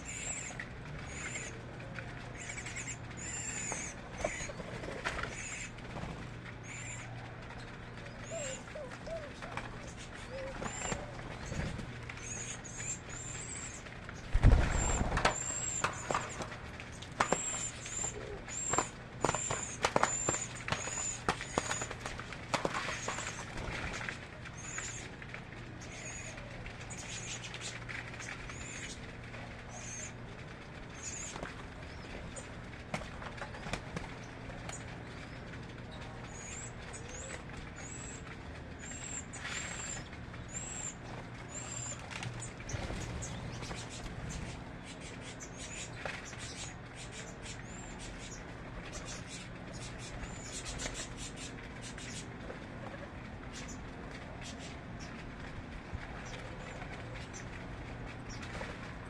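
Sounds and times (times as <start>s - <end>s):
small birds chirping: 0.0s - 5.8s, 6.4s - 23.6s, 24.4s - 32.7s, 33.4s - 52.4s
steady low hum: 0.0s - 59.0s.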